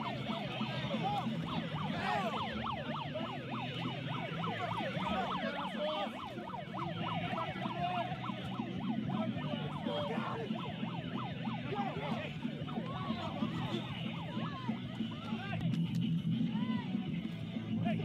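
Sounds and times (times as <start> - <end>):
sirens yelping: 0.0 - 15.5
crowd hubbub: 0.0 - 18.0.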